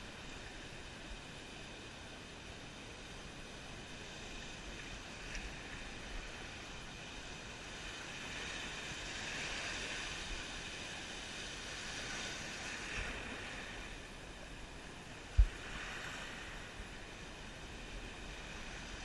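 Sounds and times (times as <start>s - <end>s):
waves breaking in shallow surf: 0.0s - 19.0s.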